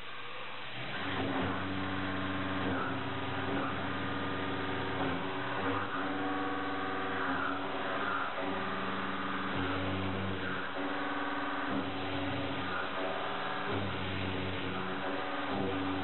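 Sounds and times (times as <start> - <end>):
milling cutter humming on steel: 0.7 - 16.0.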